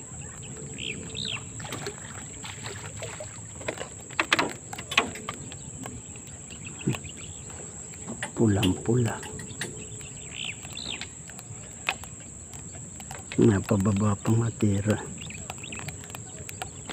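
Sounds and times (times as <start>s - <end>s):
scattered clicks: 0.1s - 16.9s.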